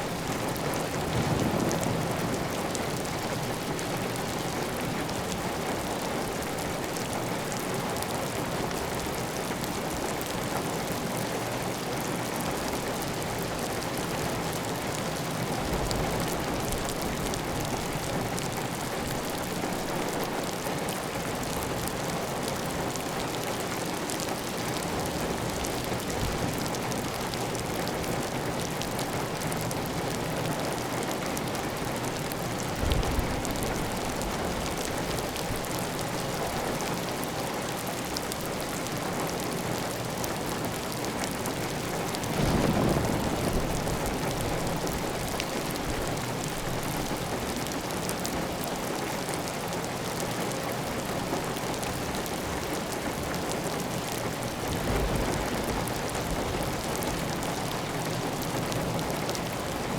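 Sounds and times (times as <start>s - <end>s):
heavy rain on a tile roof: 0.0s - 59.9s.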